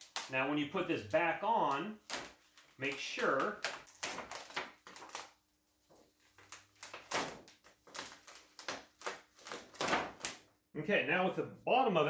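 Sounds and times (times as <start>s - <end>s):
plastic sheet crackling: 0.0s - 10.5s.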